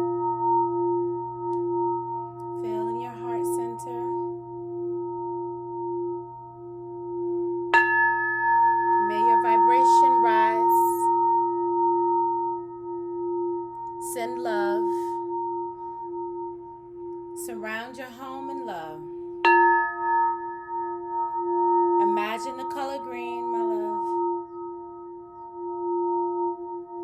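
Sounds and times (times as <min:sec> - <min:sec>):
singing bowl struck: 0:00.0 - 0:27.0
singing bowls ringing: 0:00.0 - 0:27.0.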